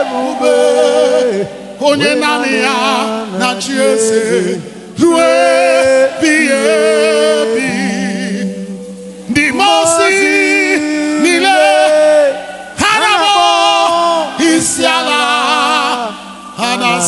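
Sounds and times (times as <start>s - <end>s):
group singing with vibrato: 0.0s - 17.0s.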